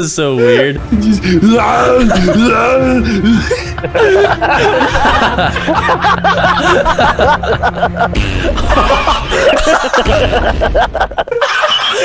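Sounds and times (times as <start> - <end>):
steady music: 0.0 - 12.0
people laughing: 1.3 - 12.0.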